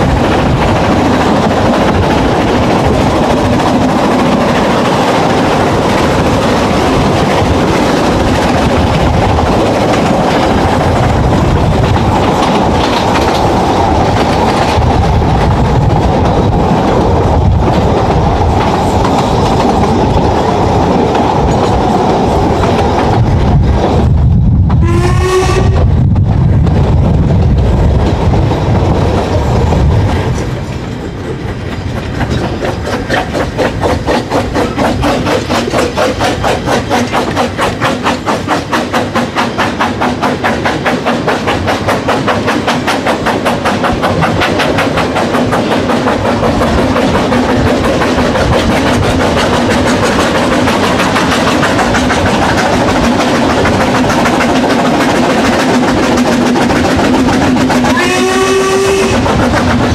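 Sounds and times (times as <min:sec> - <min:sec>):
steam train running beat: 0:00.0 - 0:59.9.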